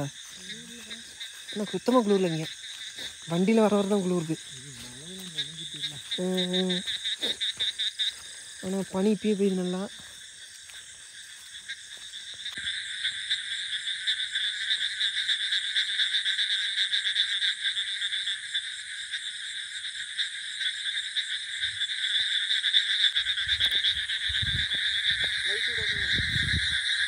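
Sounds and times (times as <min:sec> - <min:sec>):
chorus of frogs calling: 0:00.0 - 0:27.0.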